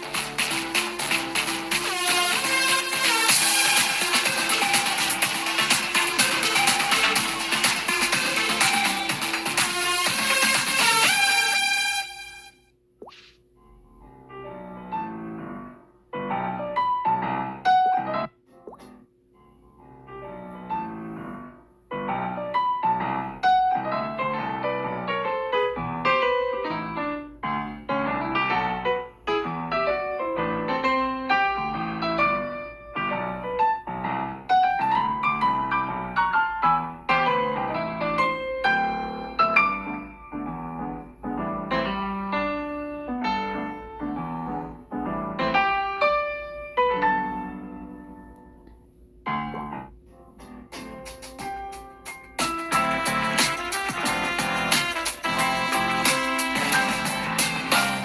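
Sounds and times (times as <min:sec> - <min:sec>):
piano playing: 0:00.0 - 0:12.6, 0:13.7 - 0:58.0.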